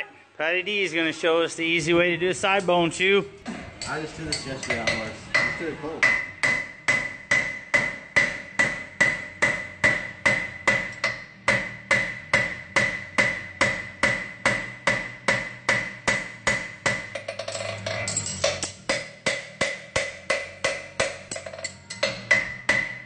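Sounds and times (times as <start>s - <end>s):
hammer ringing on horseshoe: 3.8s - 23.0s.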